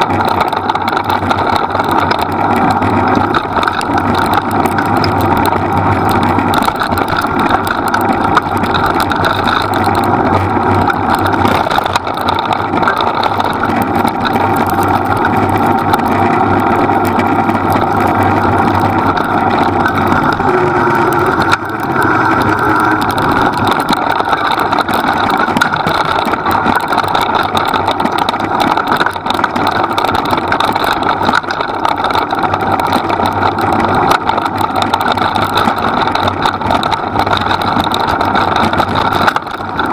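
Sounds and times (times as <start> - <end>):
small vehicle engine running: 0.0 - 39.9.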